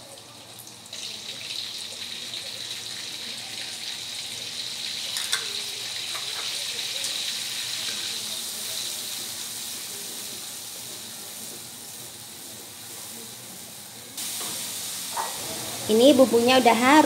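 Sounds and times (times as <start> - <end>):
spice paste sizzling in oil: 0.1 - 17.0.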